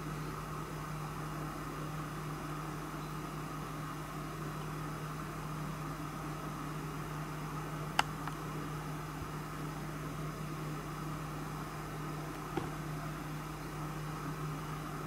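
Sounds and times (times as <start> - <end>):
room hum and hiss: 0.0 - 15.0.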